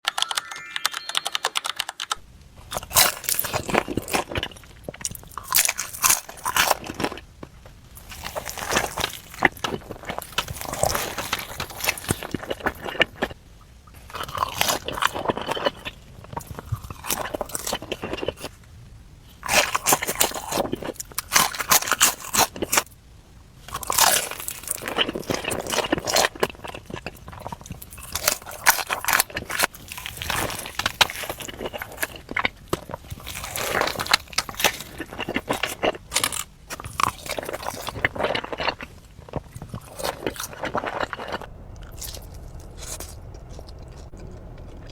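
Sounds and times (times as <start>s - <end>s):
crunchy bites and chewing: 2.6s - 18.7s, 19.3s - 23.0s, 23.6s - 44.9s.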